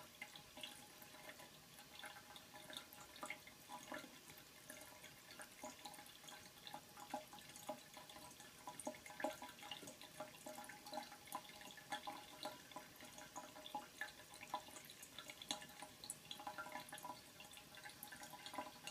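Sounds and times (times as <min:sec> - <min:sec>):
cat lapping water: 0:00.0 - 0:18.9
tap water trickling into sink: 0:00.0 - 0:18.9.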